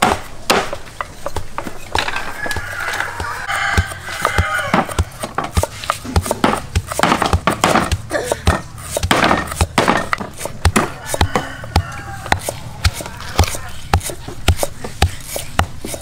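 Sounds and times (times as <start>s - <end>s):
cleavers chopping on wooden blocks: 0.0s - 16.0s
stone pestle pounding in mortar: 2.5s - 16.0s.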